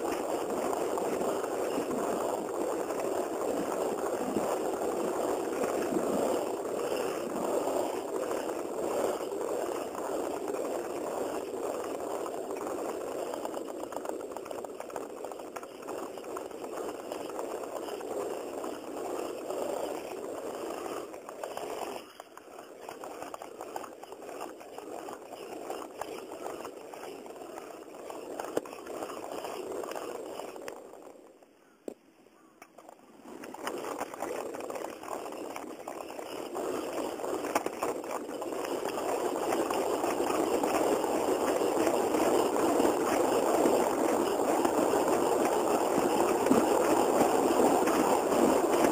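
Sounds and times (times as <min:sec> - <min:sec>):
wheel clicking noise: 0:00.0 - 0:31.5, 0:32.6 - 0:48.9
wheels rolling over pavement: 0:00.0 - 0:31.5, 0:32.6 - 0:48.9.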